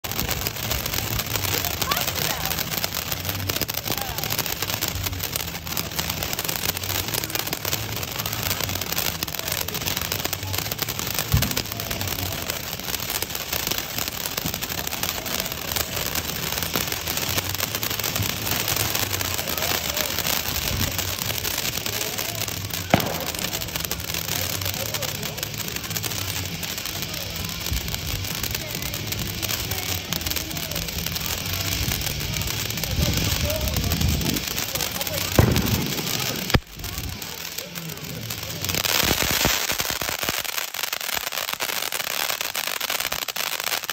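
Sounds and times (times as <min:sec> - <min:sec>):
firework crackling hiss: 0:00.0 - 0:43.9
firework pops: 0:00.0 - 0:43.9.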